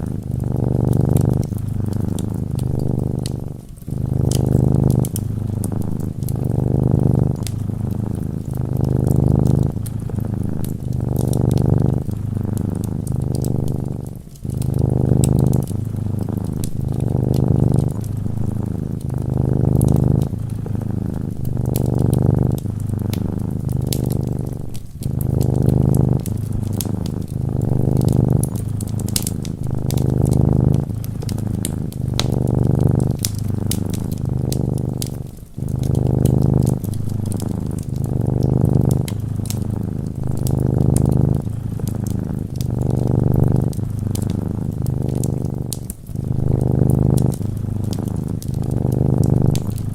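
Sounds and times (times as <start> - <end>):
cat purring: 0.0 - 49.9
wood fire crackling: 0.0 - 49.9.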